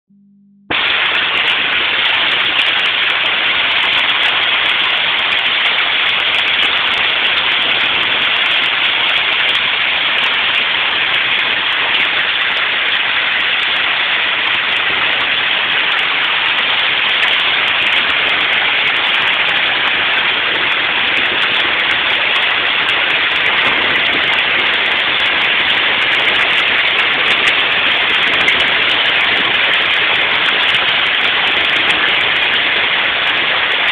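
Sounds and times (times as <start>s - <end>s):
rain falling: 0.7s - 33.9s.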